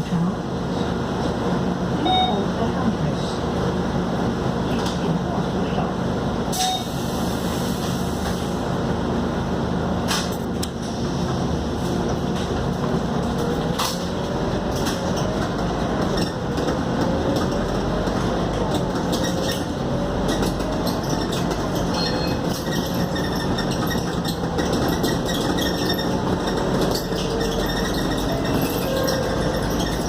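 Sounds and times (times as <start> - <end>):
bus engine and road rumble: 0.0 - 30.0.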